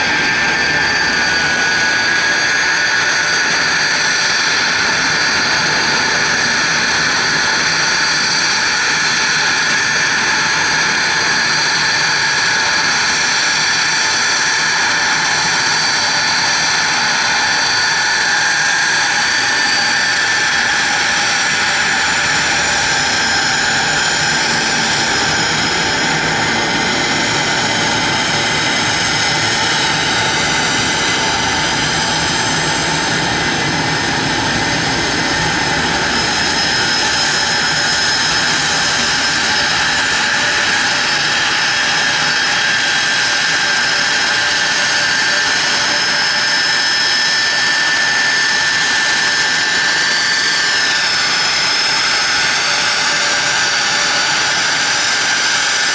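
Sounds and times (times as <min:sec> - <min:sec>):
jet engines rushing and whining: 0:00.0 - 0:55.9.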